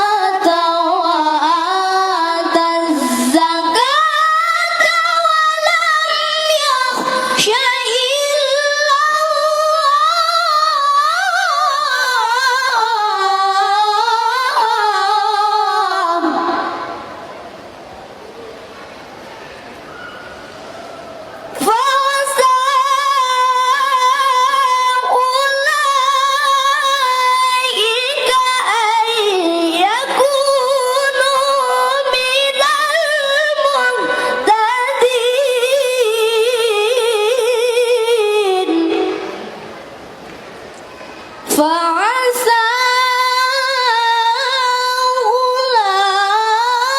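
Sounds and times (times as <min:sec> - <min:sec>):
melodic recitation in high voice: 0:00.0 - 0:17.1, 0:21.6 - 0:39.8, 0:41.5 - 0:46.9.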